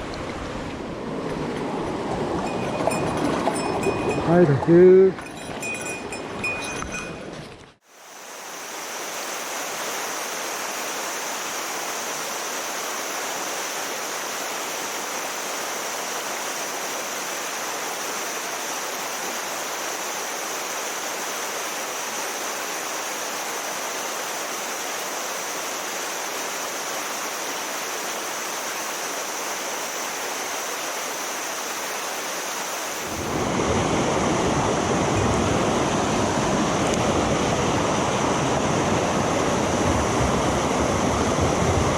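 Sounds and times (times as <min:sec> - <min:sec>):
rushing stream: 0:00.0 - 0:41.9.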